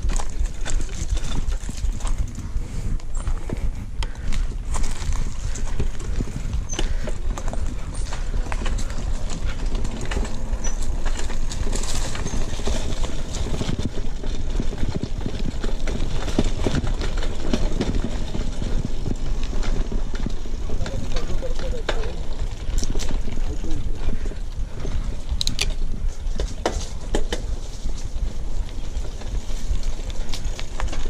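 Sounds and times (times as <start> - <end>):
bike rattling over stones: 0.0 - 31.0
low wind rumble: 0.0 - 31.0.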